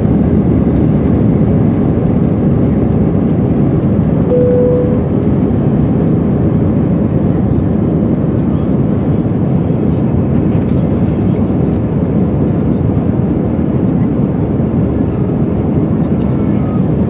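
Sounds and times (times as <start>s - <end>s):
jet engine and airflow rush: 0.0s - 17.0s.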